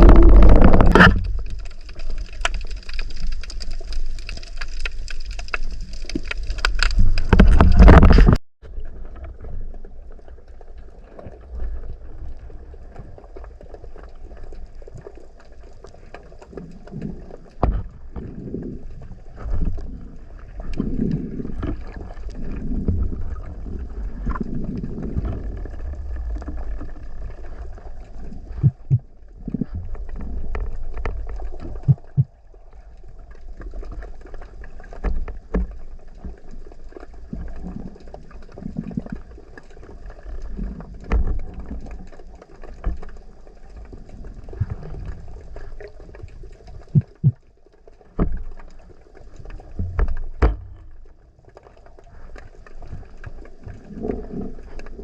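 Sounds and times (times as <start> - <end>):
muffled rumble of moving water: 0.0 - 55.0.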